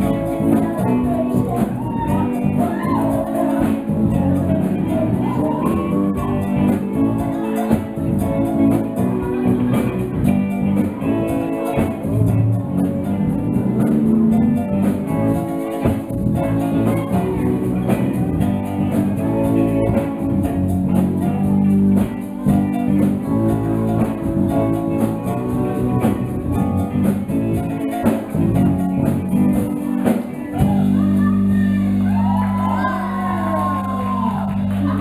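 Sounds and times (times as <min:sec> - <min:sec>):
drum kit: 0:00.0 - 0:35.0
guitar: 0:00.0 - 0:35.0
live band playing dance music: 0:00.0 - 0:35.0.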